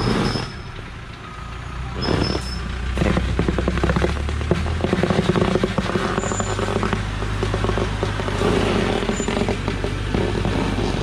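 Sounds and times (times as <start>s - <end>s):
diesel truck engine under load: 0.0s - 11.0s
rapid clatter: 2.0s - 11.0s.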